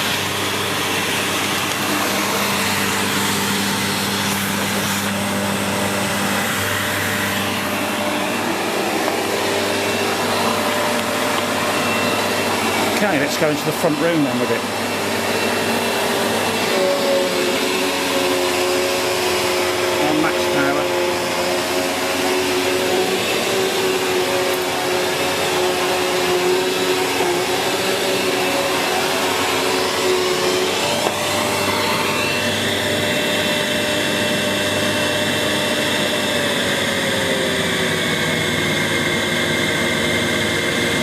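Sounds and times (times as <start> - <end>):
higher whine: 0.0 - 36.5
vacuum cleaner motor whine: 0.0 - 41.0.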